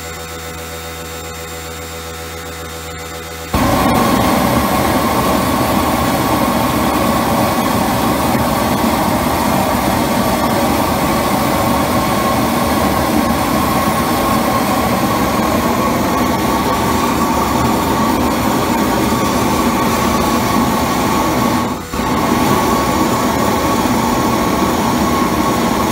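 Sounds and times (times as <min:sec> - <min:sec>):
steady machine hum: 0:00.0 - 0:25.9
steam jetting from nozzle: 0:03.6 - 0:25.9.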